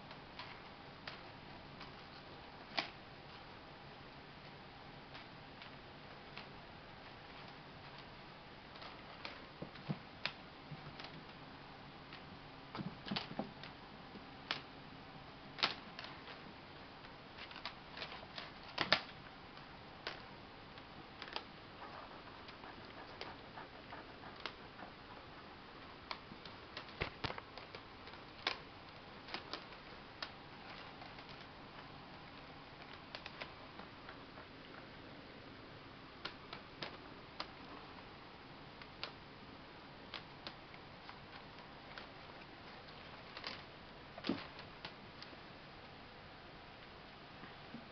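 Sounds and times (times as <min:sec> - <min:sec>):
faint steady hiss: 0:00.0 - 0:47.9.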